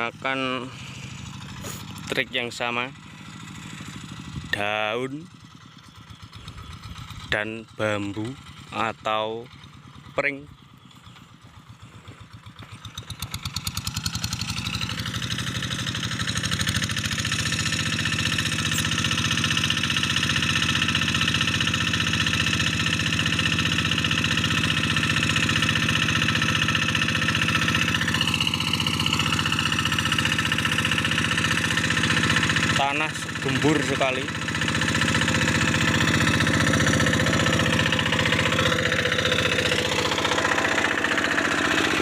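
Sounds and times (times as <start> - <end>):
diesel hand tractor chugging: 0.0 - 42.0.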